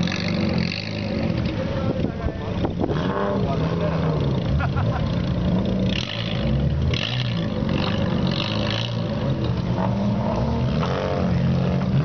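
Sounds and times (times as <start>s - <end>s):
loud car exhaust at low revs: 0.0s - 12.0s.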